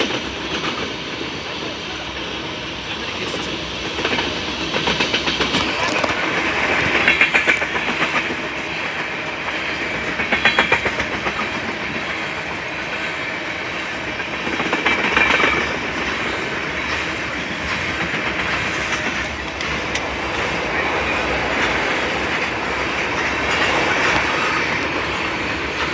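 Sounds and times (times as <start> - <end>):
freight train rolling past: 0.0 - 25.9
wheels clacking over rail joints: 3.9 - 25.9.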